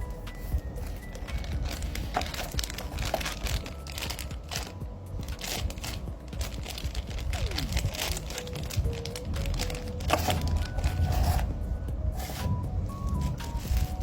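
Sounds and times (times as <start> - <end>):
plastic packaging crinkling: 0.4 - 11.5, 12.2 - 14.0.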